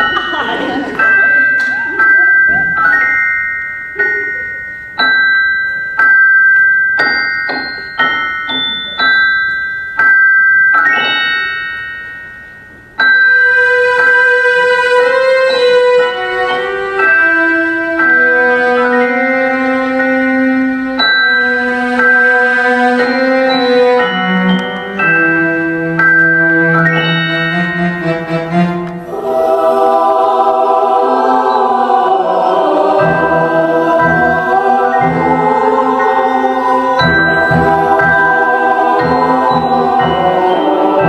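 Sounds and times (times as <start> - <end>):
chiming melody: 0.0 - 41.0.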